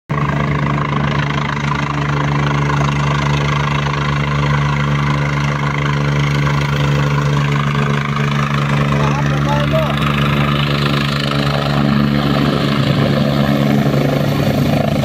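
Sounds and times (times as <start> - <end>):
helicopter engine and rotors droning: 0.1 - 15.0.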